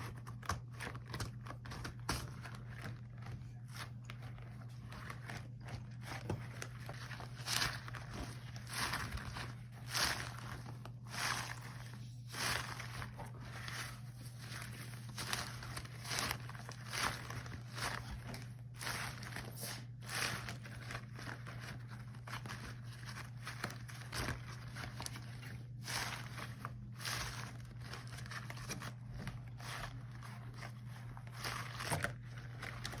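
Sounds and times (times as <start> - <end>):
rubber gloves rubbing and crinkling: 0.0 - 33.0.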